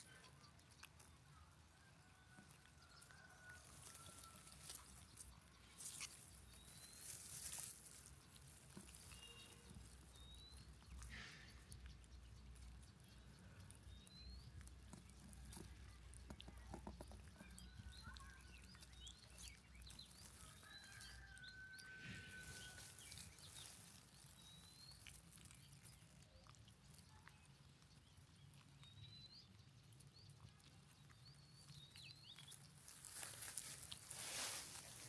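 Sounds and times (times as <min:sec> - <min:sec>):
small animals chirping and squeaking: 0:00.0 - 0:35.0.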